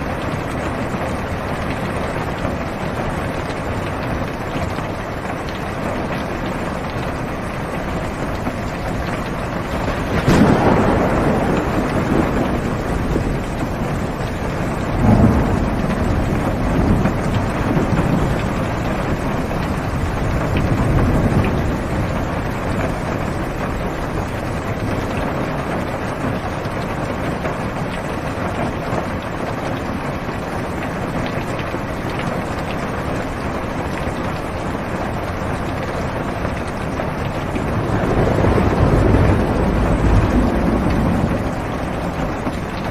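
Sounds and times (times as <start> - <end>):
rain on a car roof: 0.0 - 42.9
thunder rumbling: 0.0 - 42.9.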